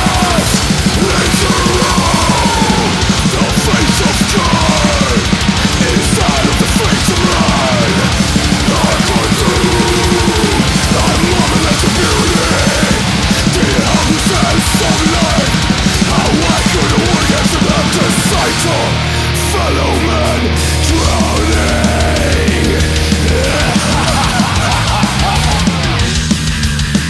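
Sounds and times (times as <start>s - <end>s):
extreme metal music: 0.0s - 27.0s.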